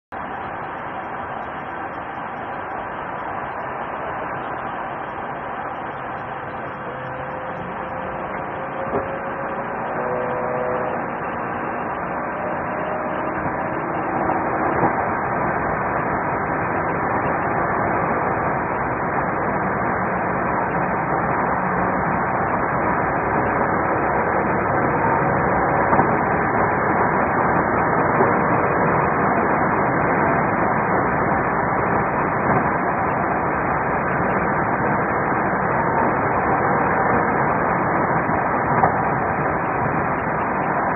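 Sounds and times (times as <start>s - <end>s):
car engine and road noise: 0.1s - 40.9s.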